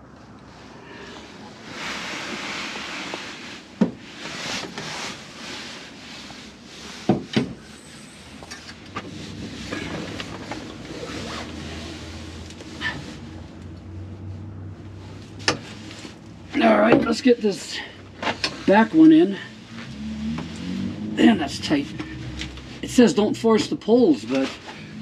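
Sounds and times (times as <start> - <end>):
tent fabric rustling and scraping: 0.4 - 14.0, 15.0 - 17.5, 18.2 - 23.2, 23.8 - 25.0.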